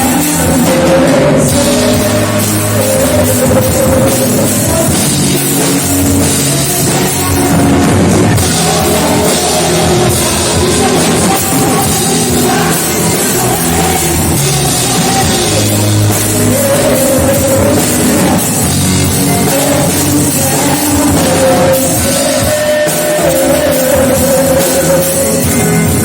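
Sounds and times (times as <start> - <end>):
loud band music with drums: 0.0 - 26.0.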